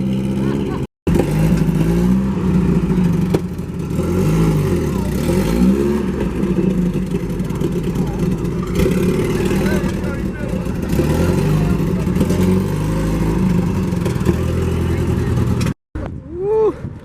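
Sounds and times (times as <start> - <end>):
car engines revving: 0.0 - 15.8.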